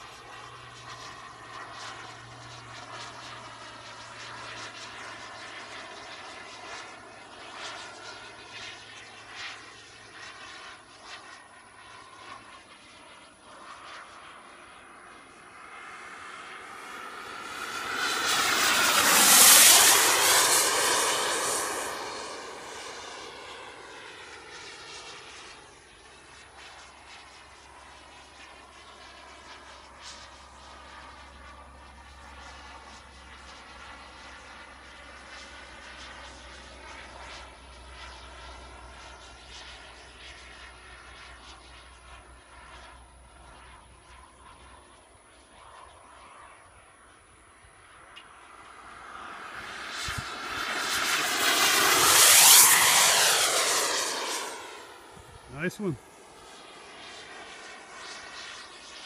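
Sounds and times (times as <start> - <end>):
jet turbine whining: 0.0 - 59.0.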